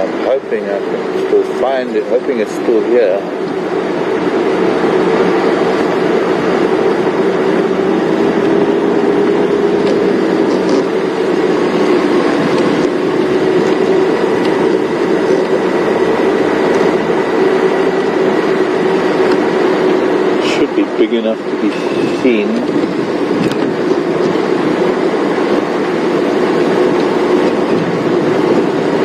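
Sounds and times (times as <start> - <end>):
road noise: 0.0 - 29.0
vehicle engine drone: 0.0 - 29.0.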